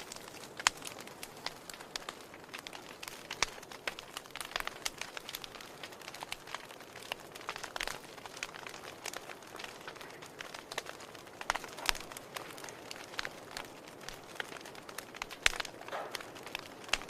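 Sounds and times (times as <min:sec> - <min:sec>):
campfire crackling and popping: 0:00.0 - 0:17.0
soft steady hiss of fire: 0:00.0 - 0:17.0.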